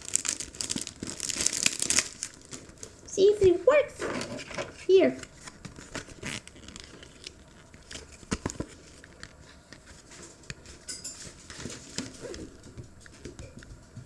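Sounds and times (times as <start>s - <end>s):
paper handling: 0.0s - 12.7s.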